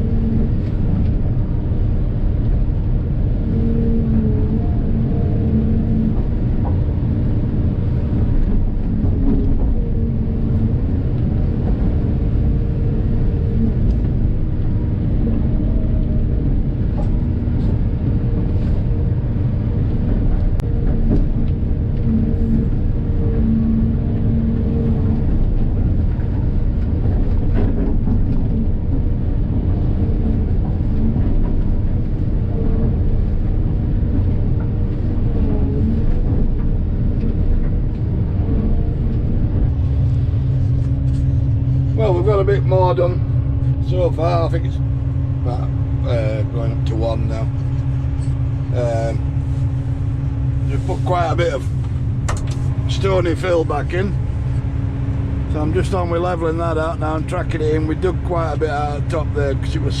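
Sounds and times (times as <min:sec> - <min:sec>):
excavator diesel rumble: 0:00.0 - 1:00.0
hydraulic hum: 0:00.0 - 1:00.0.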